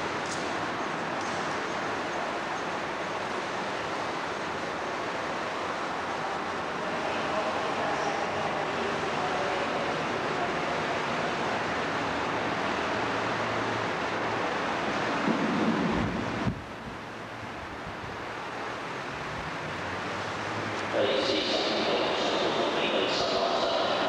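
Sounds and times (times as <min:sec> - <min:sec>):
camcorder background hiss: 0:00.0 - 0:15.3, 0:16.9 - 0:24.0.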